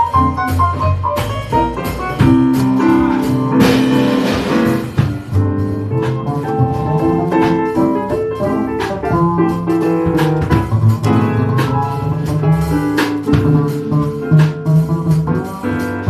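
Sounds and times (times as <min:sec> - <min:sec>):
jazz drums: 0:00.0 - 0:16.0
jazz swing guitar: 0:00.0 - 0:16.0
walking bass line: 0:00.0 - 0:16.0.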